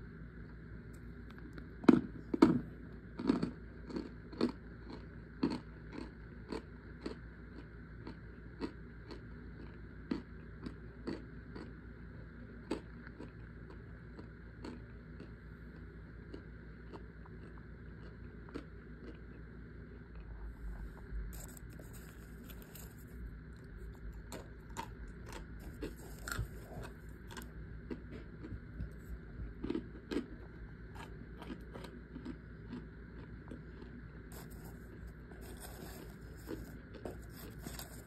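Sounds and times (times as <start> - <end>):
steady low hum: 0.0 - 38.0
crunchy chewing: 0.4 - 38.0.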